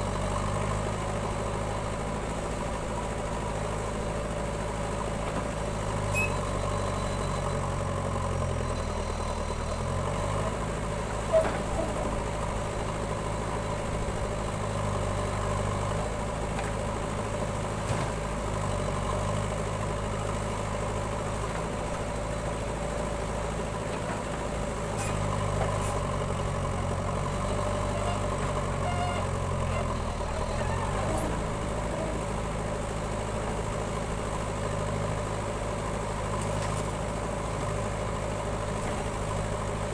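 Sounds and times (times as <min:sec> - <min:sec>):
backhoe diesel engine running: 0:00.0 - 0:39.9
tractor diesel idling: 0:00.0 - 0:39.9.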